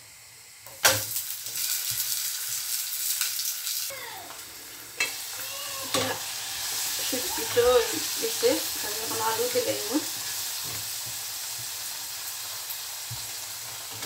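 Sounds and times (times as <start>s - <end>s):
flatbread sizzling in hot oil: 0.0s - 14.0s.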